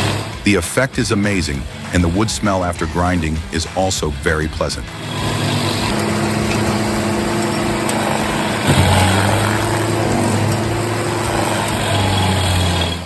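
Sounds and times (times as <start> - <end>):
stump grinder engine running: 0.0 - 13.0.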